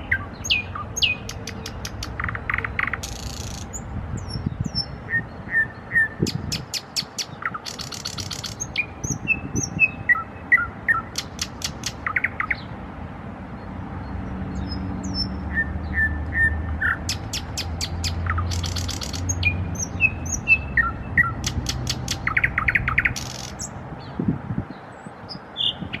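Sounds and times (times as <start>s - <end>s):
nightingale singing: 0.0s - 12.7s, 14.6s - 23.8s, 24.8s - 26.0s.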